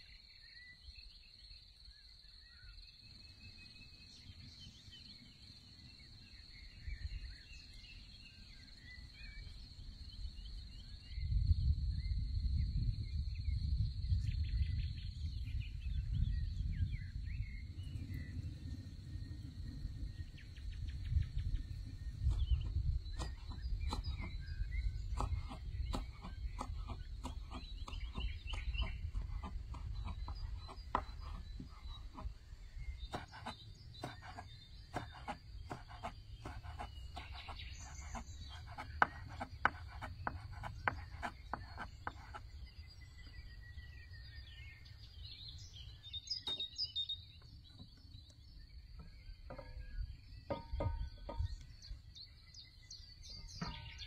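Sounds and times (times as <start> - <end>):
bird chirps: 0.0 - 54.0.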